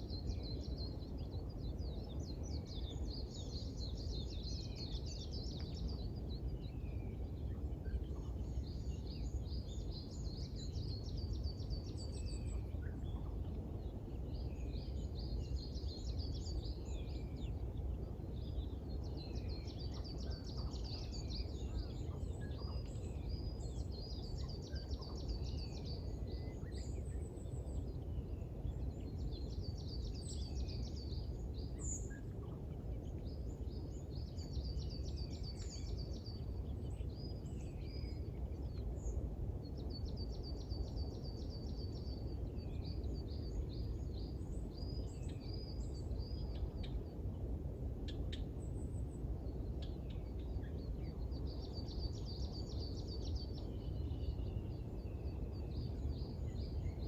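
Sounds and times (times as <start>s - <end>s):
small songbirds trilling: 0.0s - 47.4s, 48.1s - 57.0s.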